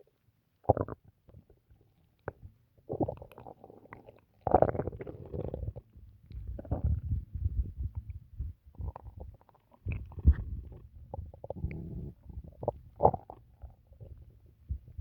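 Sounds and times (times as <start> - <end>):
stomach gurgling and rumbling: 0.6 - 15.0.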